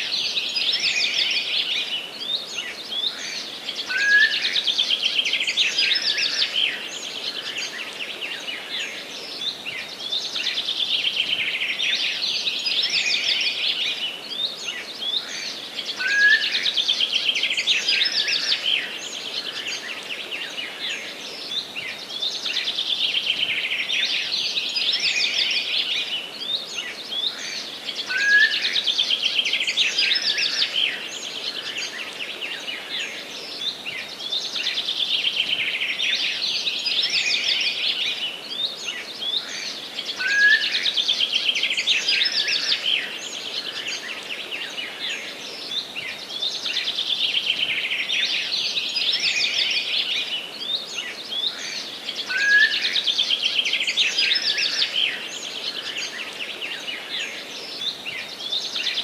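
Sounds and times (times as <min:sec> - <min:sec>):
songbirds trilling and chirping: 0:00.0 - 0:59.0.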